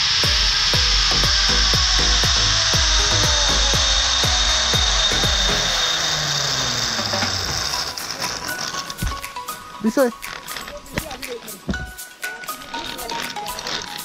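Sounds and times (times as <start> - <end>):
zipline pulleys whirring: 0.0 - 14.0.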